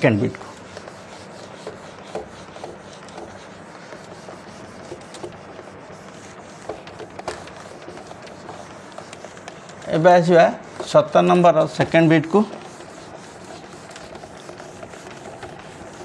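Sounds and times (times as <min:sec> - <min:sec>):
pen scratching while writing: 0:00.3 - 0:16.0.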